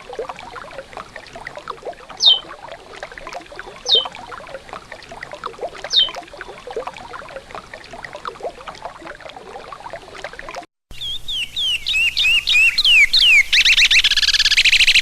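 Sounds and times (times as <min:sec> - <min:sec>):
river water trickling: 0:00.0 - 0:15.0.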